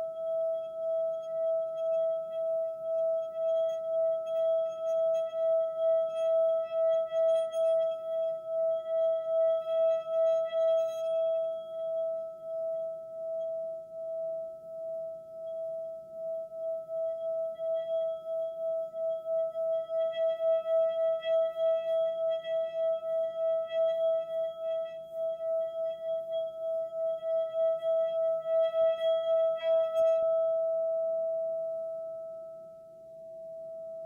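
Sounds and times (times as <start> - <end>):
singing bowl ringing: 0.0 - 34.0.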